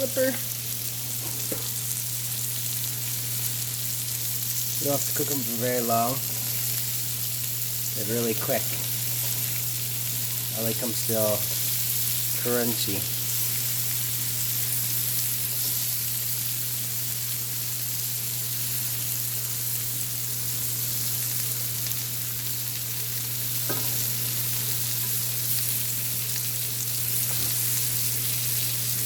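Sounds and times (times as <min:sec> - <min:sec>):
mushrooms sizzling in a frying pan: 0:00.0 - 0:29.0.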